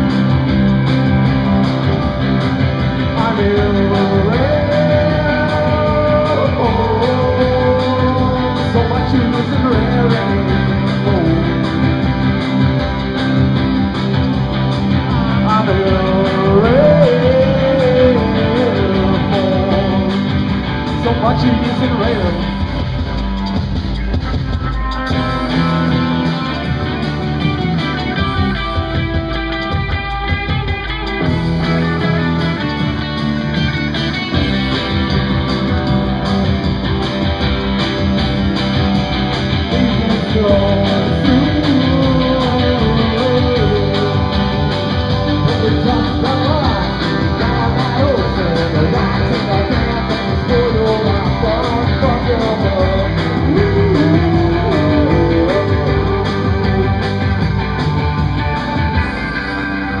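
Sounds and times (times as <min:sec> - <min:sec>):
electric guitar: 0:00.0 - 1:00.0
live rock band playing: 0:00.0 - 1:00.0.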